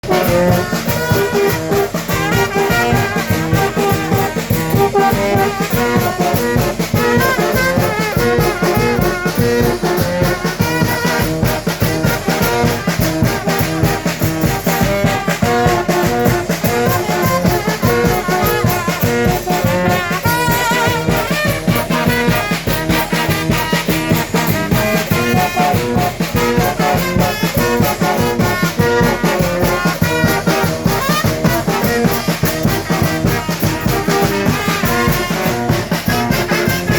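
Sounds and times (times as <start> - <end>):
brass band playing: 0.0 - 36.9
steady drum beat: 0.0 - 36.9.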